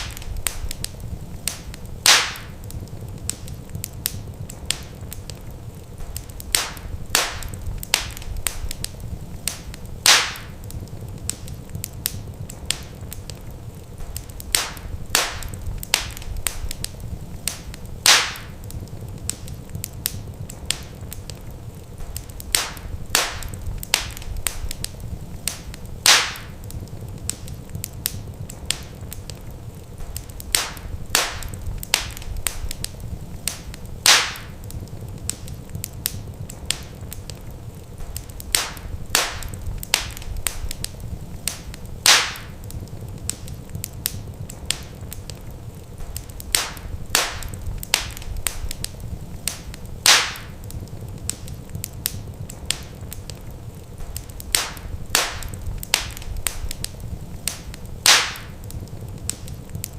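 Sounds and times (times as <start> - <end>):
fire popping and snapping: 0.0 - 59.9
wood fire crackling: 0.0 - 59.9.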